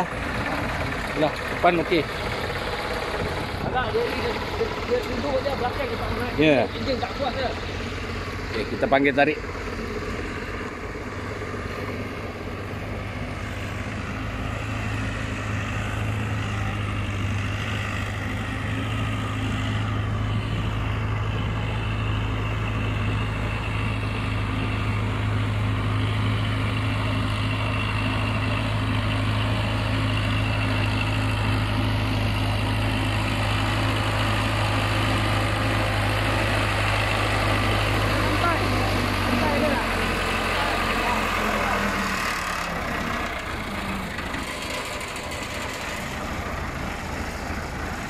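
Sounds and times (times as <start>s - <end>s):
backhoe diesel engine running: 0.0s - 48.0s.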